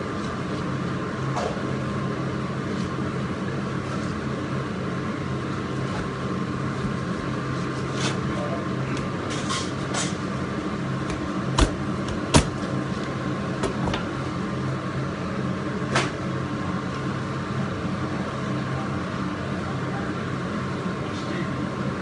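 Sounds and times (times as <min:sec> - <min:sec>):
kitchen equipment hum: 0:00.0 - 0:22.0.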